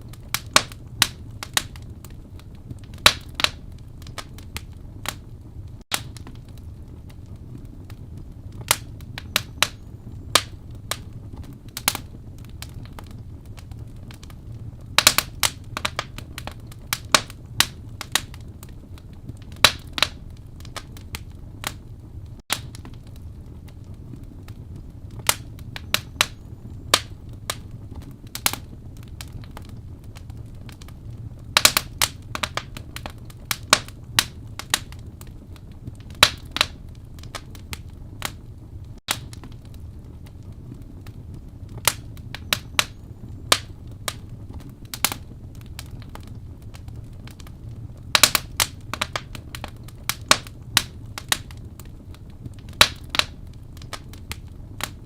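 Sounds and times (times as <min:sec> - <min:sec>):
burning wood popping and snapping: 0:00.0 - 0:55.0
low rumble of flames: 0:00.0 - 0:55.0.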